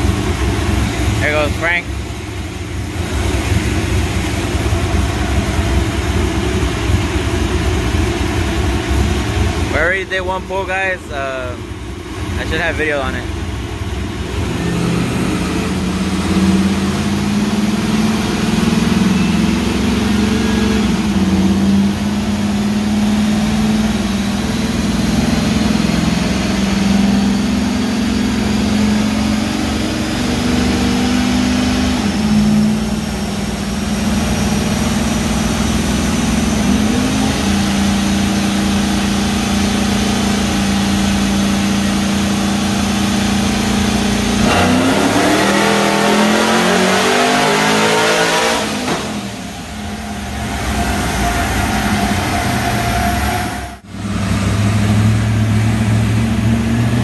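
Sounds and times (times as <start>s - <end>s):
truck engine running: 0.0s - 48.0s, 48.6s - 57.0s.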